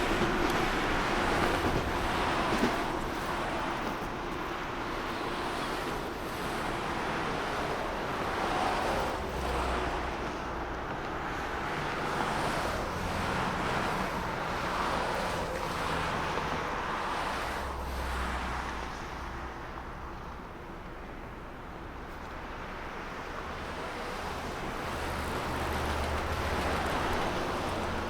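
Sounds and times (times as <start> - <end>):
cars passing by: 0.0 - 28.0.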